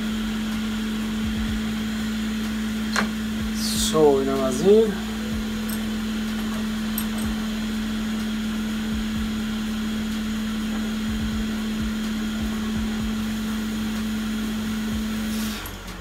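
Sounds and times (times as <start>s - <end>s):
electric fan motor humming: 0.0s - 16.0s.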